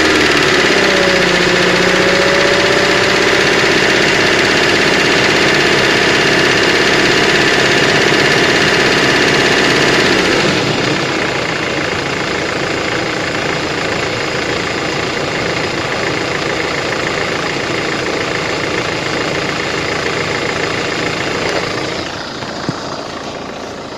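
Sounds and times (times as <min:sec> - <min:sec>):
engine running with a knock: 0:00.0 - 0:23.9.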